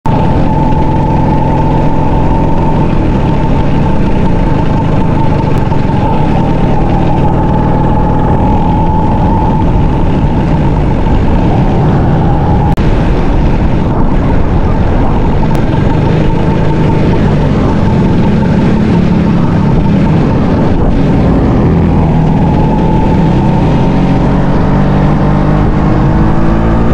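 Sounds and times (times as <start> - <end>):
scooter engine cruising: 0.1 - 26.9.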